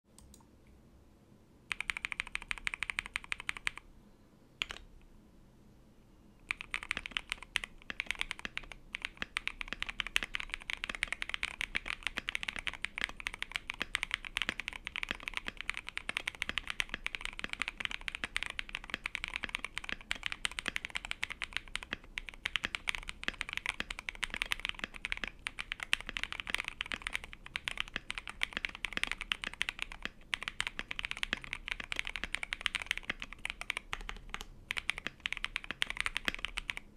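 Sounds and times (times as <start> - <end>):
fast typing on mechanical keyboard: 1.7 - 3.8, 4.6 - 4.8, 6.5 - 36.9.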